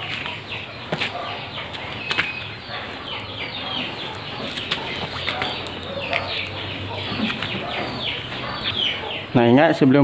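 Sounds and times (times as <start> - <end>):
many birds chirping: 0.0 - 10.0.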